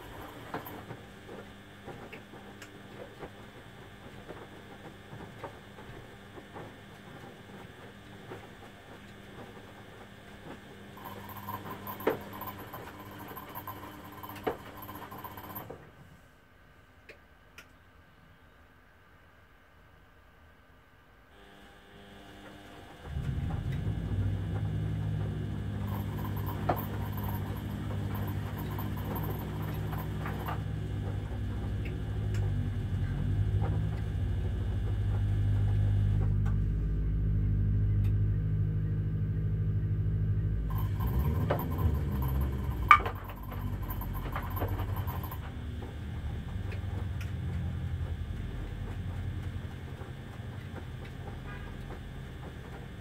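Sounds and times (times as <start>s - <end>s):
washing machine motors humming: 0.0s - 17.7s, 21.3s - 53.0s.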